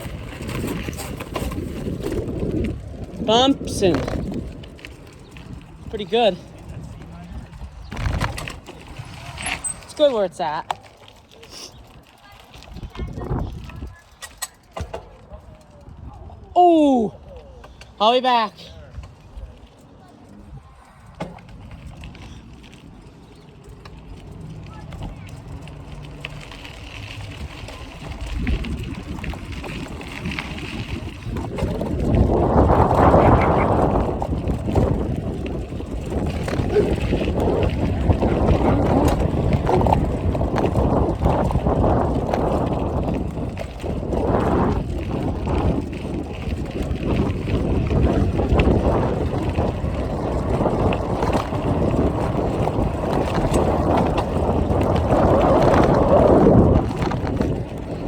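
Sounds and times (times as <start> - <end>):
wind buffeting microphone: 0.0 - 10.6, 11.8 - 17.4, 20.3 - 58.0
bicycle rolling rumble: 0.0 - 58.0.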